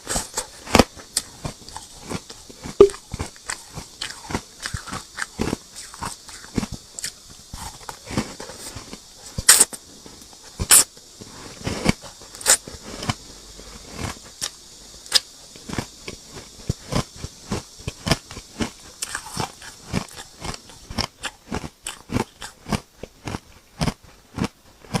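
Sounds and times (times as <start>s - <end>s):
crunchy chewing of ice: 0.0s - 25.0s.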